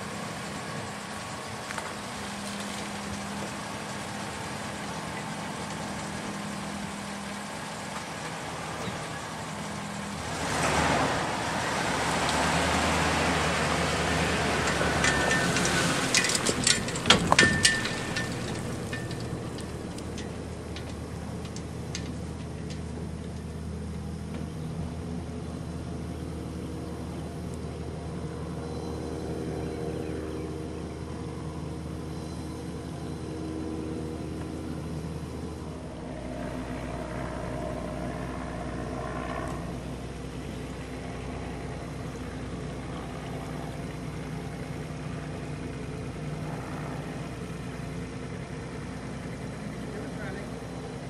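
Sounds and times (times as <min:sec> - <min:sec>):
small outboard motor running: 0:00.0 - 0:51.0.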